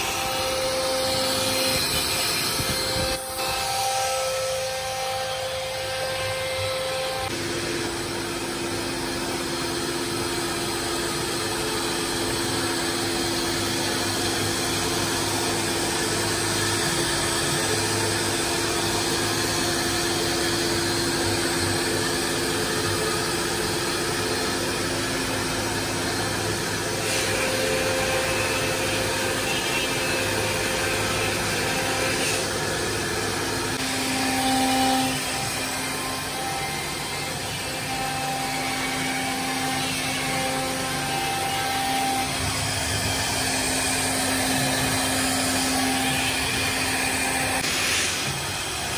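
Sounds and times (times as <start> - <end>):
router spindle motor whining: 0.0 - 48.9.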